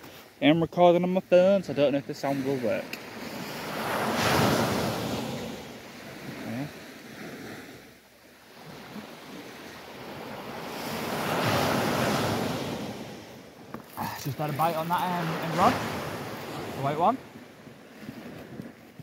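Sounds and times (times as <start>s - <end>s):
small sea waves breaking: 2.2s - 19.0s.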